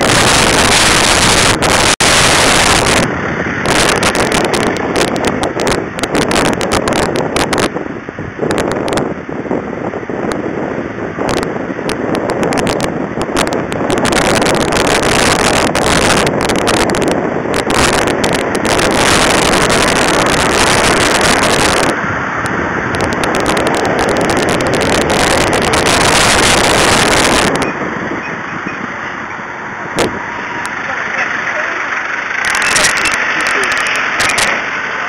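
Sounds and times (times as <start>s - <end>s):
road and wind noise: 0.0s - 35.0s.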